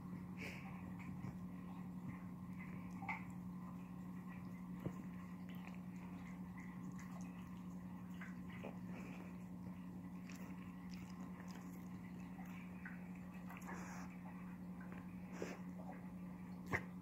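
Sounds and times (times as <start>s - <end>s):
steady low hum: 0.0s - 17.0s
cat licking fur: 0.9s - 17.0s.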